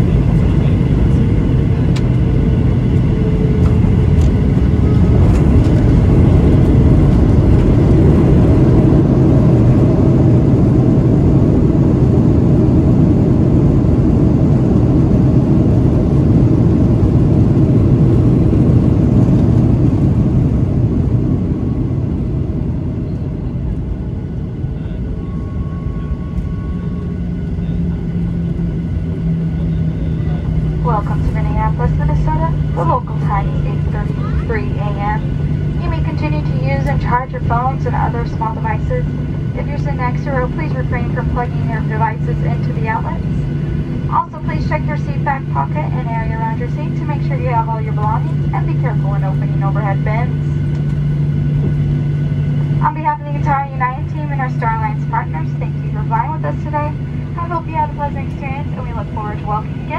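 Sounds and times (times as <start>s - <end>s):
jet engines in reverse thrust: 0.0s - 59.9s
runway rumble: 0.0s - 59.9s.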